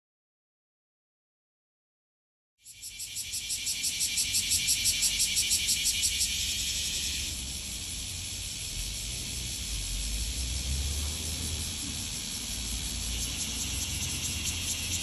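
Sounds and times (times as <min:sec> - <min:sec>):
cicada buzzing song: 0:02.6 - 0:15.0.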